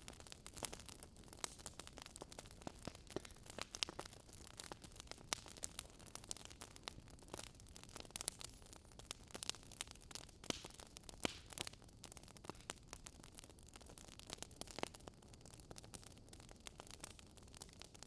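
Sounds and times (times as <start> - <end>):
soft low fire rumble: 0.0 - 18.0
wood fire pops and snaps: 0.0 - 18.0.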